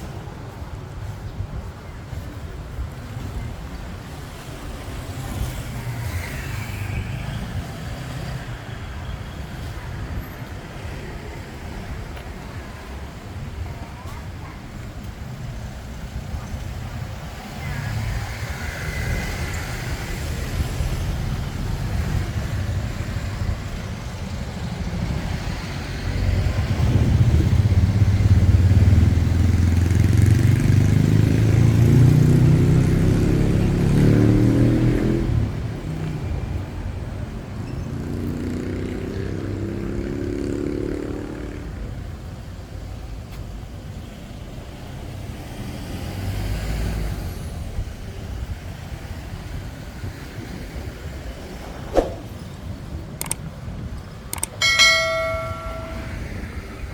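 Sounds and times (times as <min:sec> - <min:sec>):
road traffic passing: 0:00.0 - 0:56.9.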